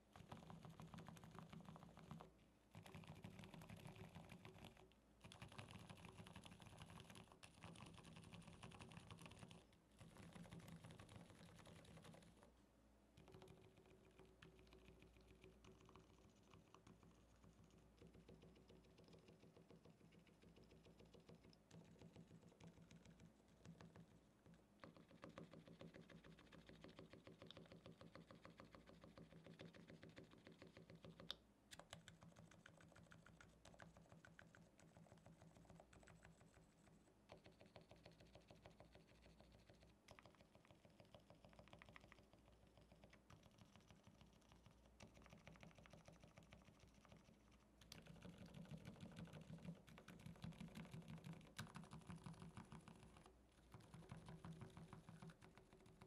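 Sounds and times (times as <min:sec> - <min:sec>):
muted keyboard typing: 0:00.1 - 0:12.5, 0:13.2 - 0:56.0.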